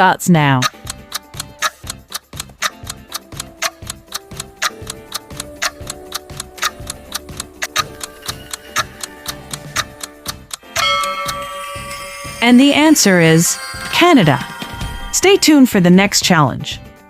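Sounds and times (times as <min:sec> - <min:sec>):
soft background music: 0:00.0 - 0:17.0
clock ticking: 0:00.4 - 0:15.6.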